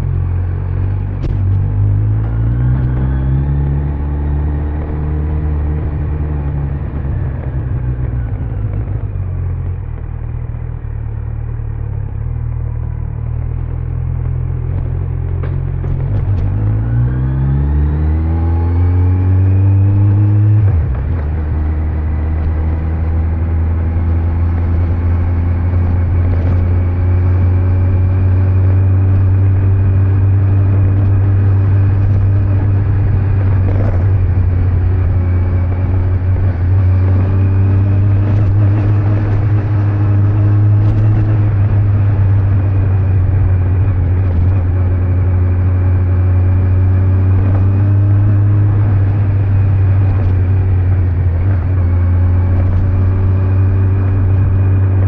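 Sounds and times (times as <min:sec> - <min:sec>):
motorcycle engine accelerating: 0:00.0 - 0:55.0
road noise: 0:00.0 - 0:55.0.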